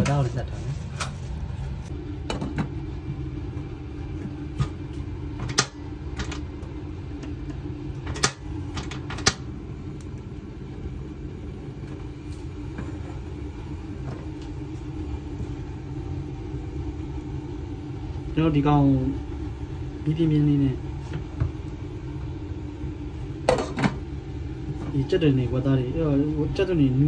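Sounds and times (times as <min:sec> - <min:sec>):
stove burner rumbling: 0:00.0 - 0:27.0.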